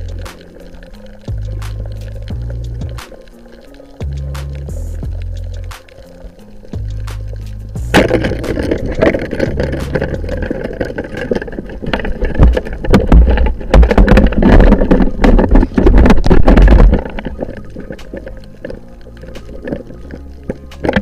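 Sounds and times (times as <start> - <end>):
fish thrashing clicks and knocks: 0.0 - 21.0
underwater rushing rumble: 0.0 - 21.0.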